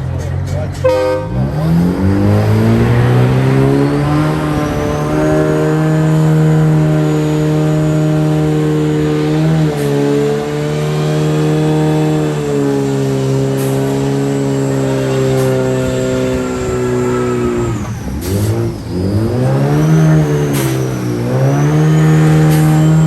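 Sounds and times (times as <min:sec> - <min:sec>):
car engine revving high: 0:00.0 - 0:23.0
tyres spinning hiss: 0:00.1 - 0:23.0.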